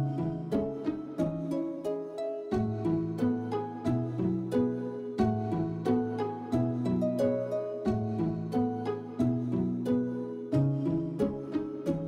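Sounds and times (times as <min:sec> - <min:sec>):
plucked instrumental music: 0:00.0 - 0:12.0.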